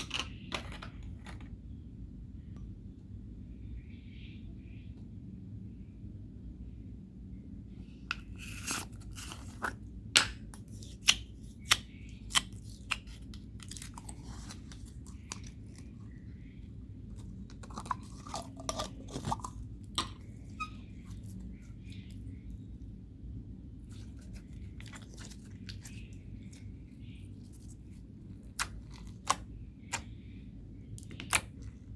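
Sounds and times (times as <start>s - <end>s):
low background hum: 0.0s - 31.9s.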